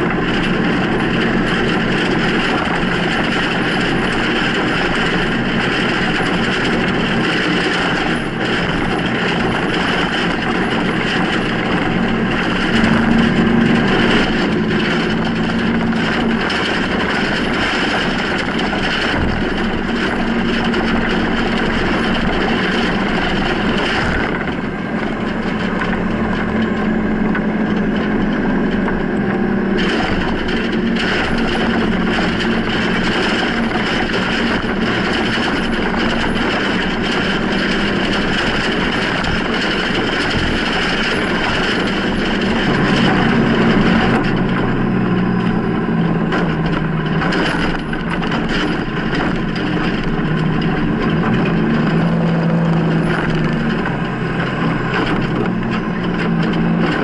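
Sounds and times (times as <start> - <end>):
diesel truck engine under load: 0.0 - 57.0
plow blade pushing snow: 0.0 - 57.0.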